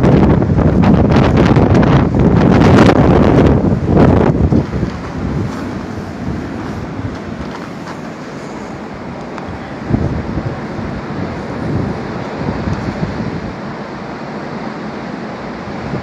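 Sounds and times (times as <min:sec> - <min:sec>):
blizzard wind buffeting microphone: 0:00.0 - 0:16.0.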